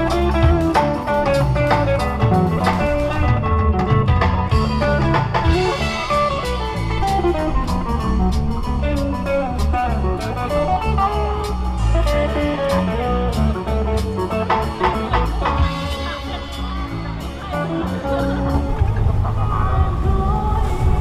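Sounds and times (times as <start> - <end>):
steady drum beat: 0.0 - 20.2
bass: 0.0 - 21.0
blues guitar instrumental: 0.0 - 21.0.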